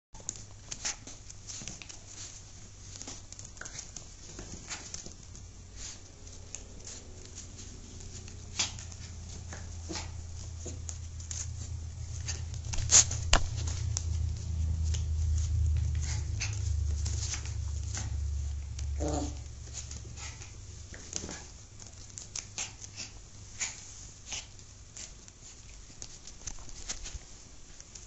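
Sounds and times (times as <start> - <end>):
low steady hum: 0.2 - 28.0
puppy playing with plush toys: 0.2 - 28.0.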